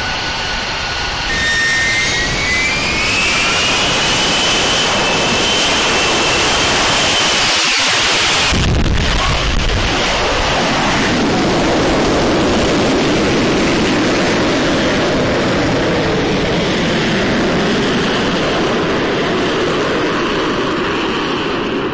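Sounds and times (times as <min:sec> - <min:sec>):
jet engine at full power: 0:00.0 - 0:21.9.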